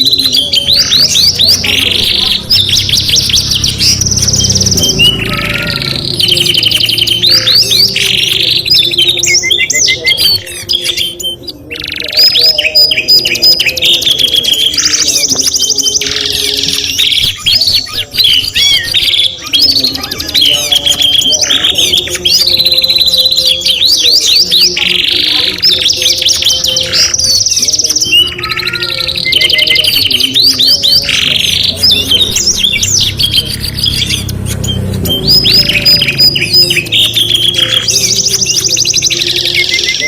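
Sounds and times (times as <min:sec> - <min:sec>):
canaries singing trills: 0:00.0 - 0:40.0.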